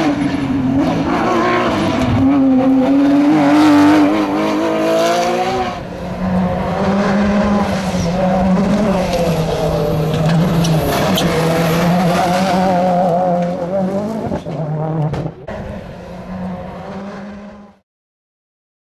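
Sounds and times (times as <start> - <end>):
rally car engine revving: 0.0 - 17.8.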